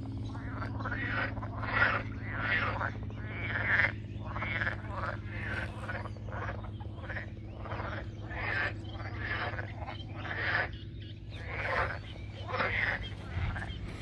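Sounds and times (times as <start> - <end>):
frogs croaking: 0.0 - 14.0.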